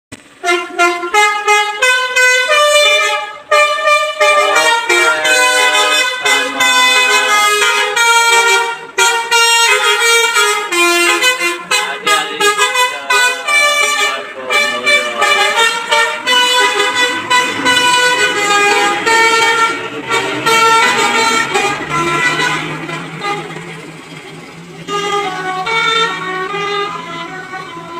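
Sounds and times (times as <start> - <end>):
musical bus air horn: 0.2 - 27.9.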